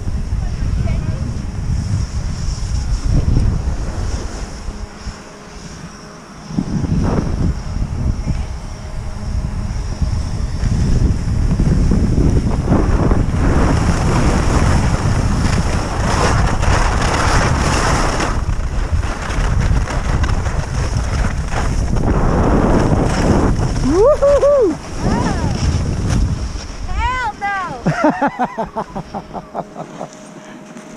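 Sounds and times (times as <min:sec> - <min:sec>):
skis sliding over snow: 0:00.0 - 0:07.6, 0:10.6 - 0:30.9
wind buffeting microphone: 0:00.0 - 0:30.0.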